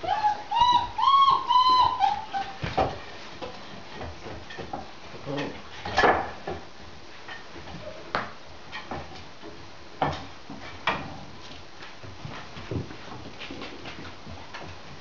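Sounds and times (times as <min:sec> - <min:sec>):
puppy paws clicking on wood: 0:00.0 - 0:15.0.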